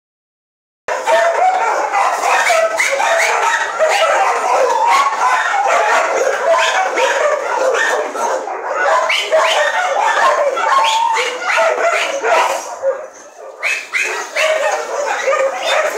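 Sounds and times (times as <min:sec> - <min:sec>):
many dogs barking and yelping: 0:00.9 - 0:15.9.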